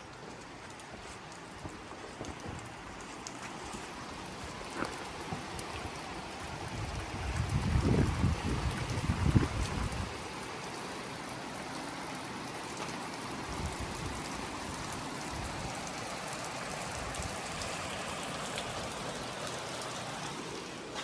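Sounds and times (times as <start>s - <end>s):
heavy rain on pavement and cars: 0.0s - 21.0s.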